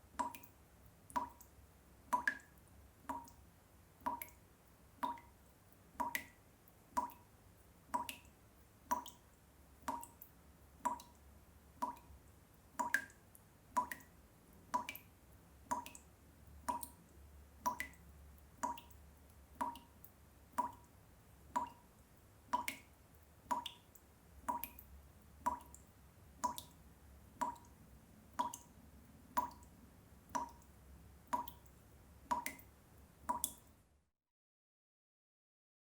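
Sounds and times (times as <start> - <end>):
water dripping from tap: 0.0 - 33.7.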